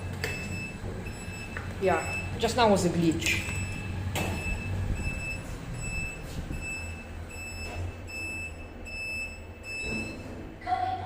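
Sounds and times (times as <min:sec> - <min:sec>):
elevator beeping: 0:00.0 - 0:10.8
low machine hum: 0:00.0 - 0:11.0.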